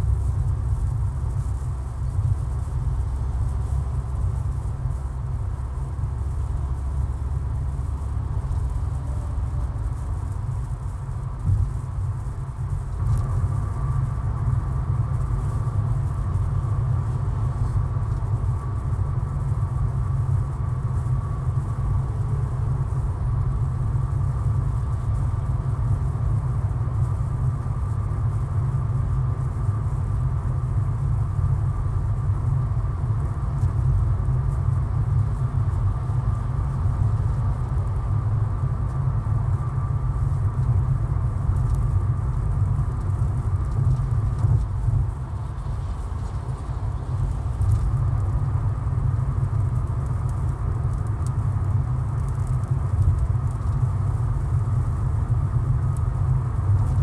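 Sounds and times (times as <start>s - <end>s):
car road and engine rumble: 0.0s - 57.0s
faint steady whine: 0.0s - 57.0s.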